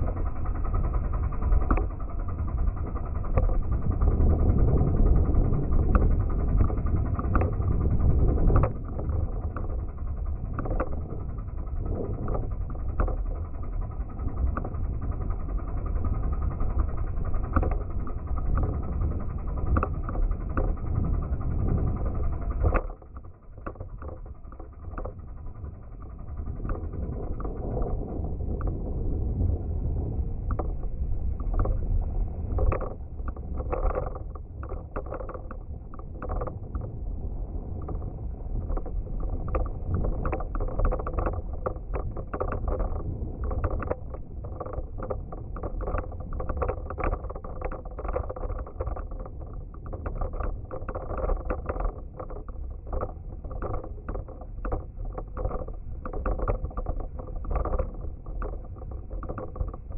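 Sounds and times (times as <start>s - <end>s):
rattling clicks and knocks: 0.0s - 28.8s, 30.5s - 30.8s, 31.4s - 31.9s, 32.5s - 59.9s
wind buffeting microphone: 0.0s - 59.9s.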